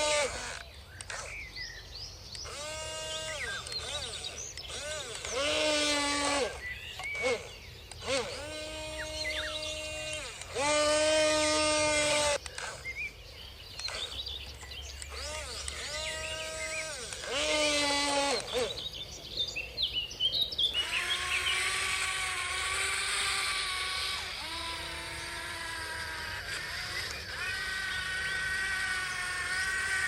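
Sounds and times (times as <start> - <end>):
toy electric motors whining: 0.0 - 19.2, 20.7 - 30.0
birds chirping: 0.0 - 30.0.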